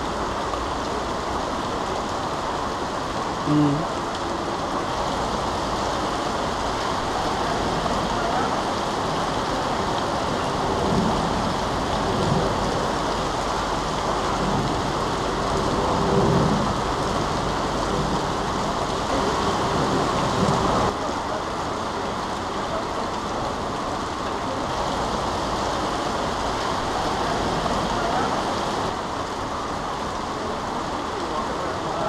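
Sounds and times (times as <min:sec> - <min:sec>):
rain and floodwater rushing: 0:00.0 - 0:32.0.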